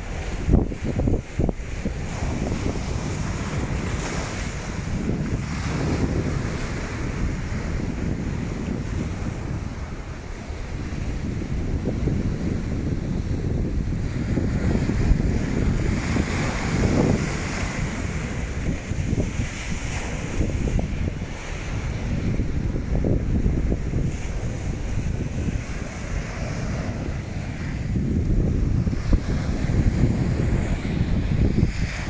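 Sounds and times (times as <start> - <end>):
waves washing on shore: 0.0 - 32.0
wind buffeting microphone: 0.0 - 32.0.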